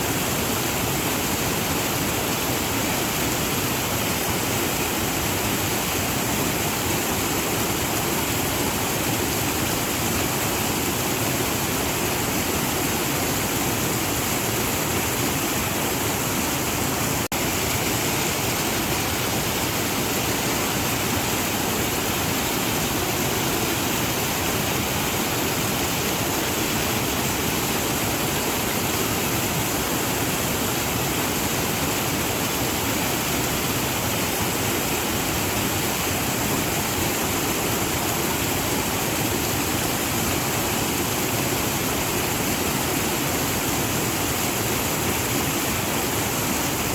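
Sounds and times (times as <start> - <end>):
waterfall roaring: 0.0 - 46.9.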